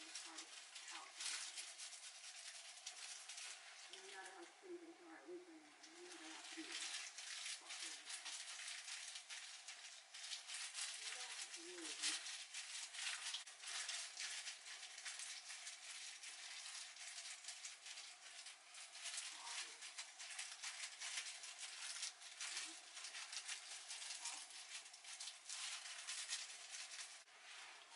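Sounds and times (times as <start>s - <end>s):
brush scratching stubble: 0.0s - 4.4s, 5.9s - 27.9s.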